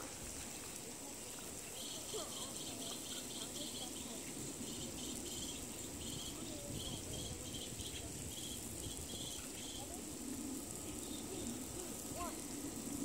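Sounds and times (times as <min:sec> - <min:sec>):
insect chirps: 0:00.0 - 0:13.0
insects buzzing: 0:00.0 - 0:13.0.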